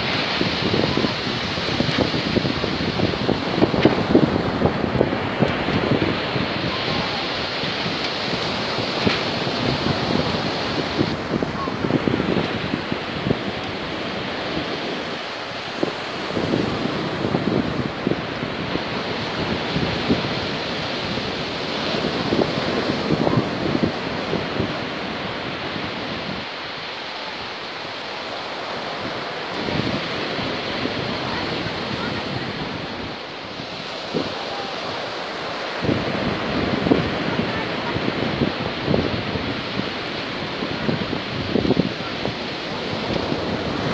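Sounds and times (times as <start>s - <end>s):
surf washing onto shingle: 0.0s - 43.9s
wind buffeting microphone: 0.0s - 43.9s.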